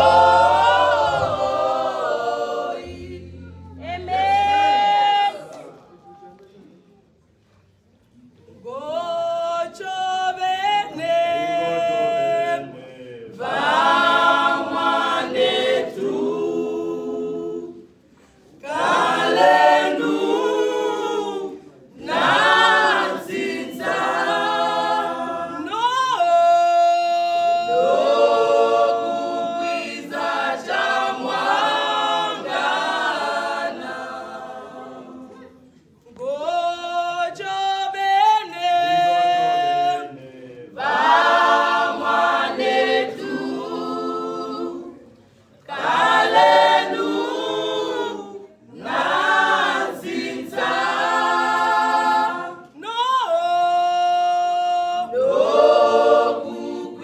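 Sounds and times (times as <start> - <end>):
choir singing a cappella: 0.0 - 6.1, 8.6 - 57.0.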